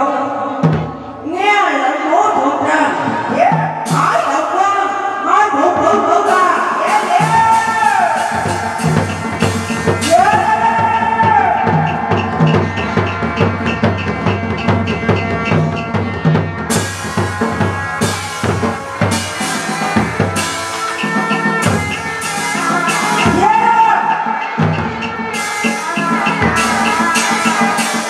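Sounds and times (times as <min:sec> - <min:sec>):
fast drum beat: 0:03.4 - 0:04.4, 0:05.8 - 0:28.0.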